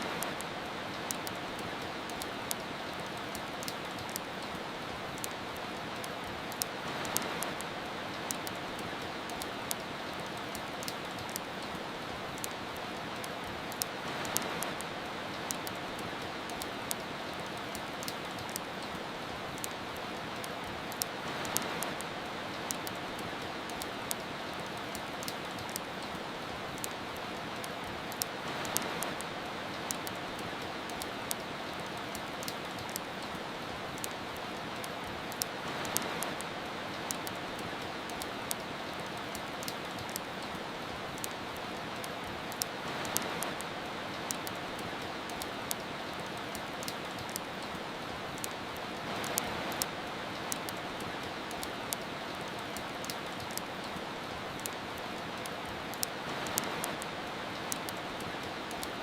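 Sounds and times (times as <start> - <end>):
rain hiss: 0.0 - 59.0
wood fire crackling: 0.0 - 59.0.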